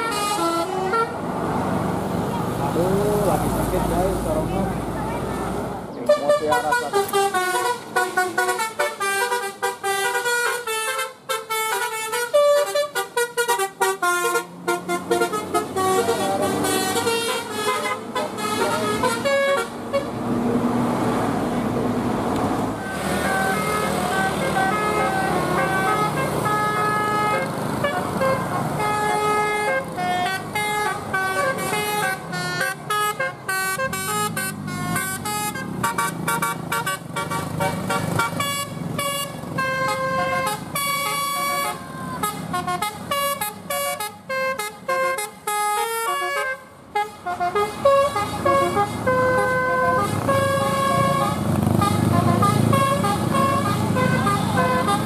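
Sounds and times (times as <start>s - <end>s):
bus horn playing a tune: 0.0s - 1.3s, 6.0s - 20.2s, 22.8s - 55.0s.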